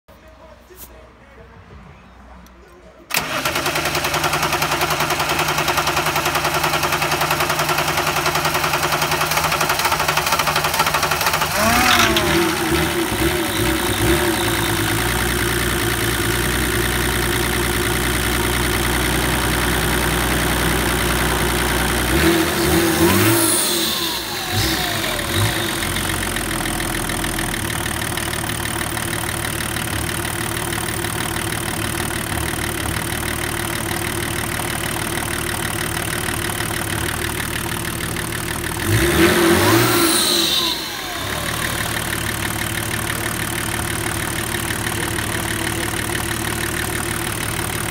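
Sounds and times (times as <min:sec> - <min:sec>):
diesel engine idling and revving: 0:03.1 - 0:47.9.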